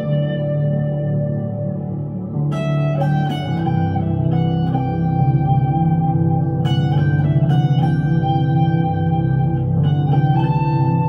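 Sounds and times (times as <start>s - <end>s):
electric guitar notes through amp: 0.0s - 11.0s.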